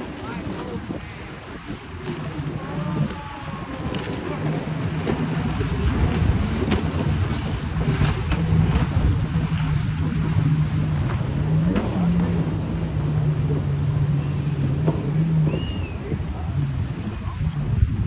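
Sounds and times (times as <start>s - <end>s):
jet ski engines passing: 0.0s - 18.0s
rush of spray and wind: 0.0s - 18.0s.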